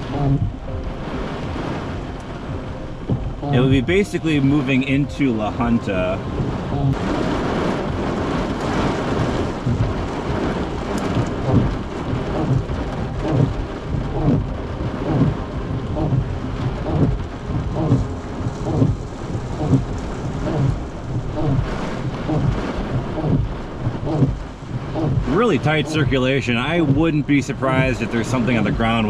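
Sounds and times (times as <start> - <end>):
heavy rain on a car roof: 0.0 - 29.0.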